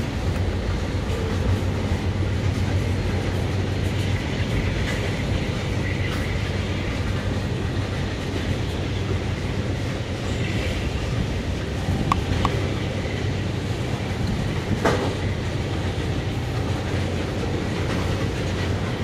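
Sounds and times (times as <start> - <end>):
freight train rolling past: 0.0 - 19.0
steel wheels rumbling on rail: 0.0 - 19.0.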